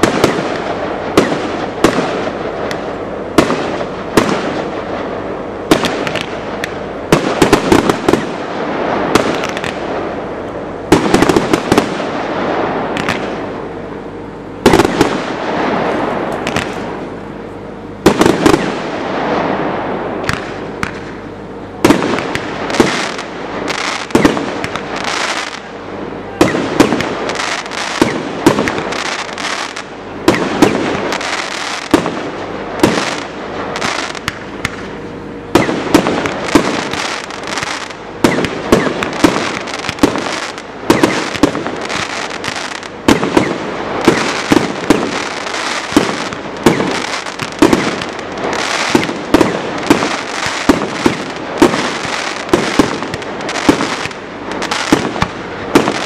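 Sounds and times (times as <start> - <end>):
fireworks bursting: 0.0 - 14.0, 14.6 - 17.4, 18.0 - 56.0.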